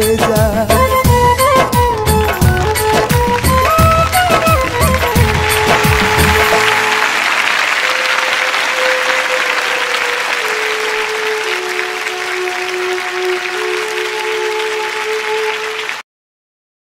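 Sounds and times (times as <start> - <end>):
music with sustained notes: 0.0 - 16.0
audience applauding: 1.0 - 16.0.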